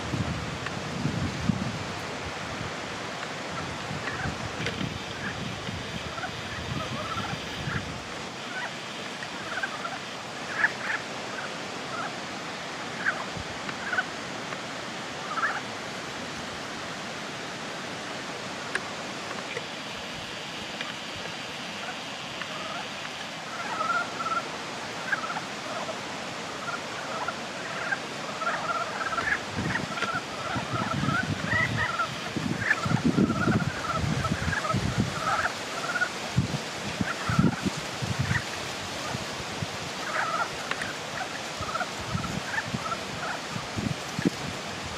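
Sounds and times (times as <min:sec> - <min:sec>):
steady hiss: 0:00.0 - 0:44.9
frogs calling: 0:03.1 - 0:16.8, 0:17.9 - 0:39.3, 0:39.9 - 0:44.4.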